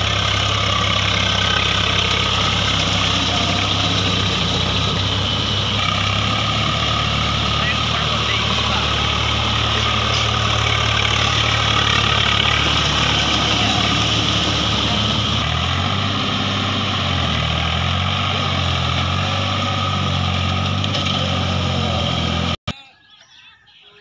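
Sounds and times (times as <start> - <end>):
tractor diesel engine running: 0.0 - 22.7.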